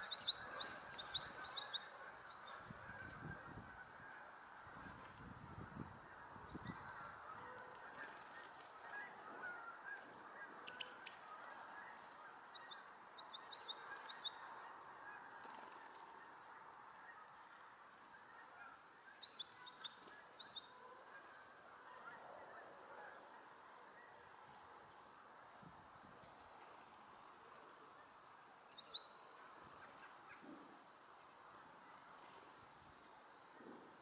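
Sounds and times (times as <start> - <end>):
songbird chirping: 0.0 - 5.0, 6.2 - 25.7, 26.6 - 34.0.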